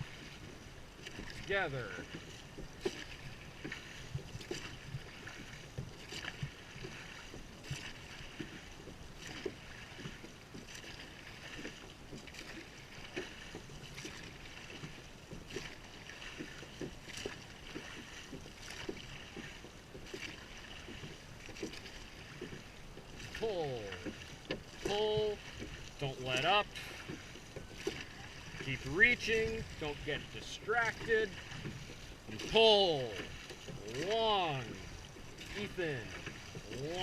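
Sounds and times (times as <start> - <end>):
oars knocking in oarlocks: 0.0 - 37.0
wind and water hiss: 0.0 - 37.0.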